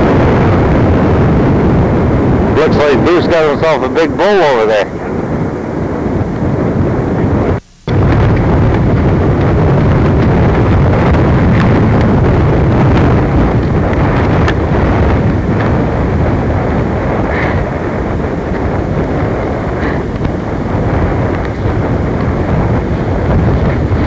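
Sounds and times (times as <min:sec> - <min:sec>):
loud low rumble: 0:00.0 - 0:24.0.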